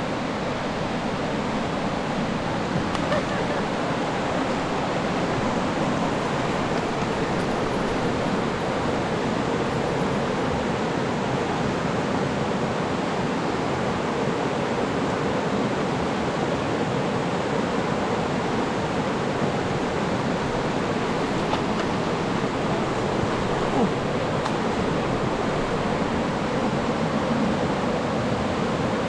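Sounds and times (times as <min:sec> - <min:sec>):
river roaring in flood: 0:00.0 - 0:29.0.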